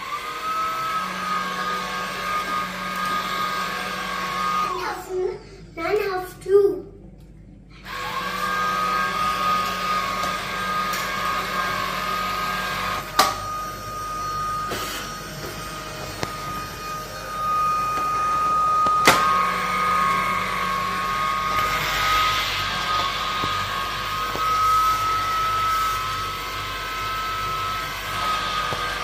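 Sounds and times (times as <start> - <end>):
stick vacuum cleaner whining: 0.0 - 5.2, 7.7 - 29.0.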